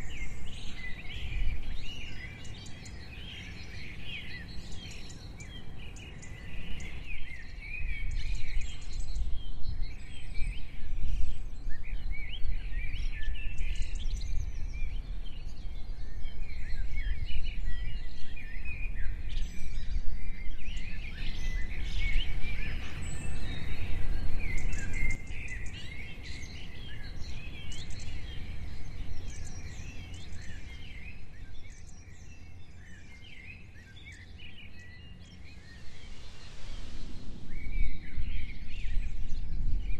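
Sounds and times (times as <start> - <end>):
birds chirping and singing: 0.0 - 39.9
wind noise on microphone: 0.0 - 39.9.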